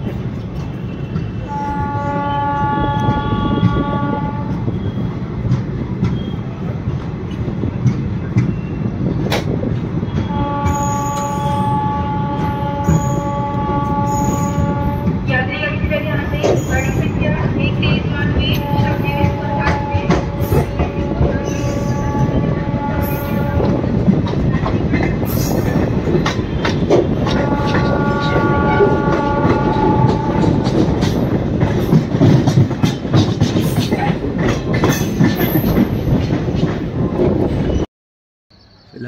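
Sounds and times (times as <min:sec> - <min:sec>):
train rumble and rattle: 0:00.0 - 0:37.9.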